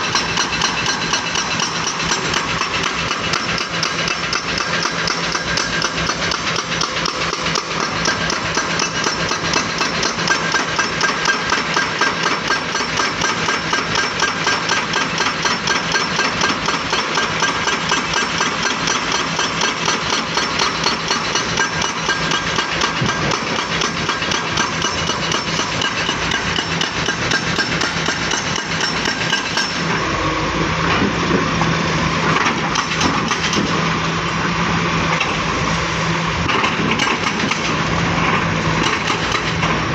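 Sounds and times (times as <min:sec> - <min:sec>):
fast metallic knocks: 0:00.0 - 0:29.8, 0:32.7 - 0:33.7, 0:36.5 - 0:37.8, 0:38.8 - 0:39.6
excavator diesel engine running: 0:00.0 - 0:39.9.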